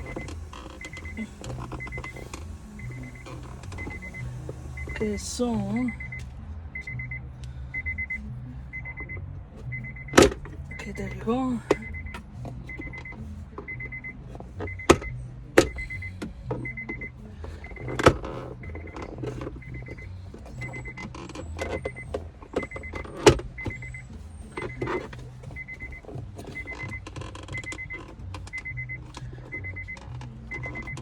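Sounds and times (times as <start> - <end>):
car warning chime beeping: 0.0 - 31.0
low hum: 0.0 - 31.0.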